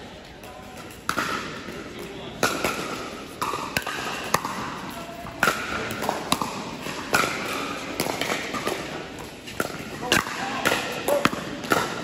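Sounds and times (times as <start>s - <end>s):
paddles hitting plastic ball: 0.2s - 12.0s.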